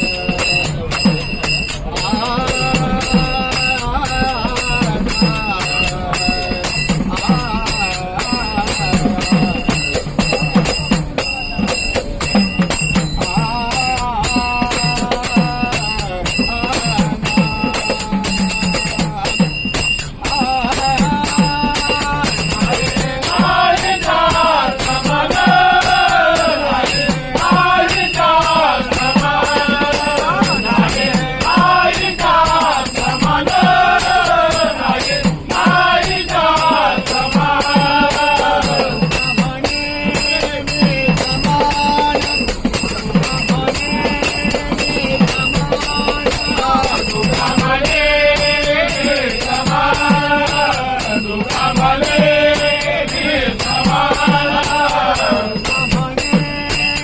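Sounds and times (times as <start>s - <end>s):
drum beat: 0.0s - 57.0s
hand cymbals jingling: 0.0s - 57.0s.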